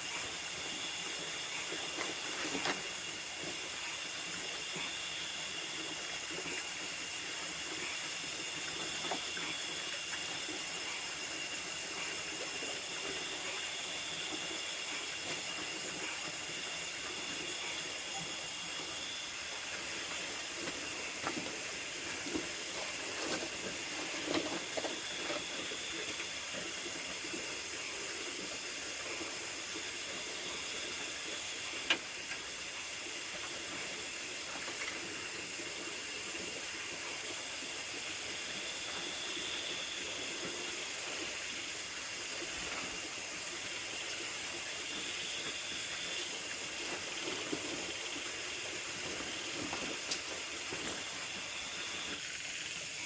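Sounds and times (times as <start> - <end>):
fast pulsing insect chirp: 0.0 - 53.0
insects trilling: 0.0 - 53.0.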